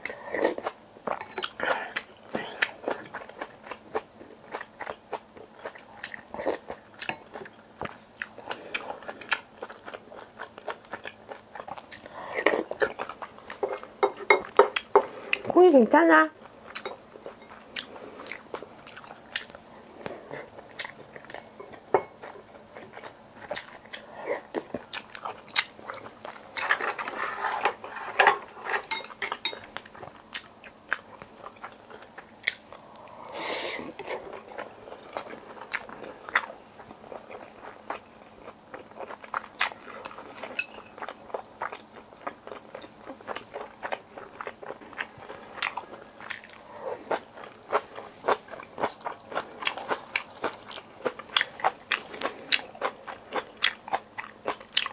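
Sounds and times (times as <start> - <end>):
chewing and crunching: 0.0 - 54.9.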